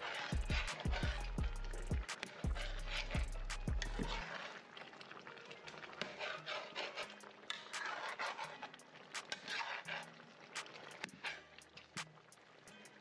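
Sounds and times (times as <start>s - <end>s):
metal spoon stirring stew in pot: 0.0s - 13.0s.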